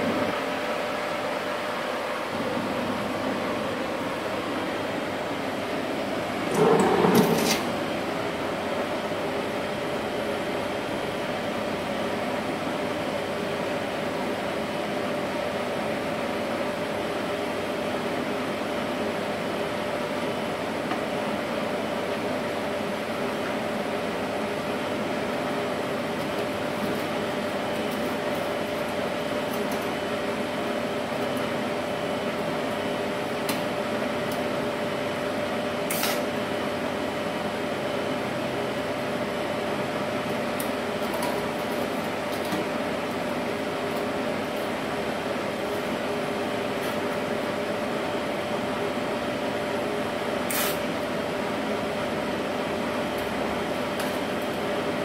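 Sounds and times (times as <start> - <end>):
cooling fan hum: 0.0 - 55.0.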